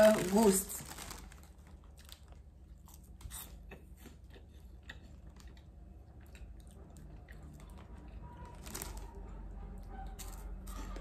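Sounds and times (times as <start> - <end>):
person chewing crunchy snacks: 0.1 - 9.2, 10.0 - 11.0.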